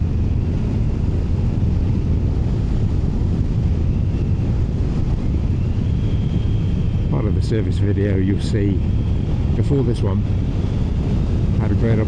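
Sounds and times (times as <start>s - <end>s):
motorcycle engine drone: 0.0s - 12.0s
wind buffeting on microphone: 0.0s - 12.0s.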